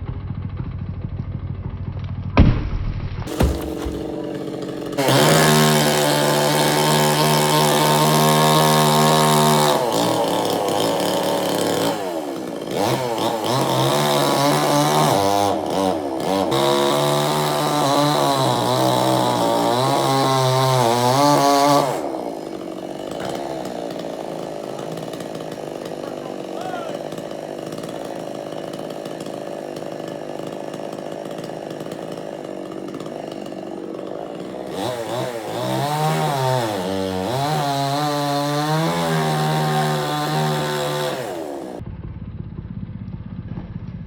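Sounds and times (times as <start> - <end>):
chainsaw cutting wood: 3.2 - 41.8
chainsaw idling: 3.3 - 41.8.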